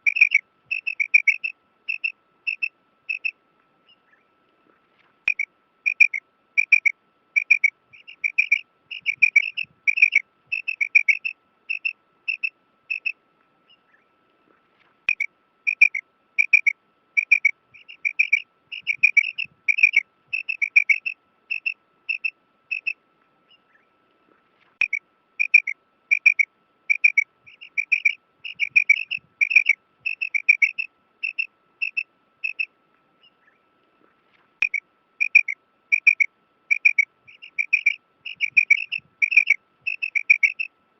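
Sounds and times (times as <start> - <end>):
quail calling: 0.0 - 4.2, 5.3 - 14.0, 15.1 - 23.8, 24.8 - 33.6, 34.6 - 40.7
faint steady tone: 0.0 - 40.9.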